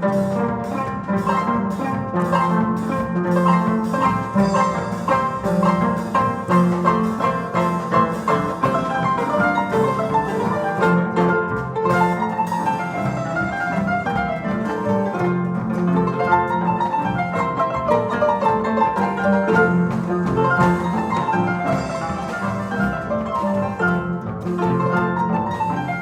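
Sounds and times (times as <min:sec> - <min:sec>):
harps playing music: 0:00.0 - 0:26.0.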